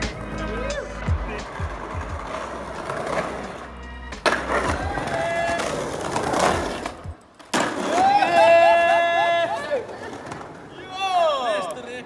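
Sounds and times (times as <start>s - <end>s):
skateboard wheels rolling on concrete: 0.0s - 12.0s.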